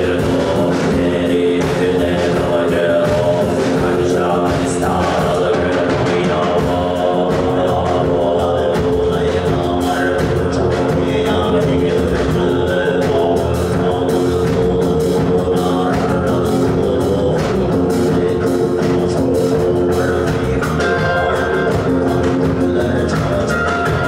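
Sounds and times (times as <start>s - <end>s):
bass guitar: 0.0s - 24.0s
drum kit beat: 0.0s - 24.0s
electric guitar: 0.0s - 24.0s
person singing: 0.0s - 24.0s.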